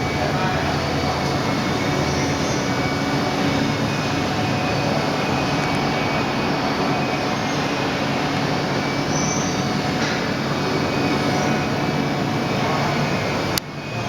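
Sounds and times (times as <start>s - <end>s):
milling machine running: 0.0s - 14.0s.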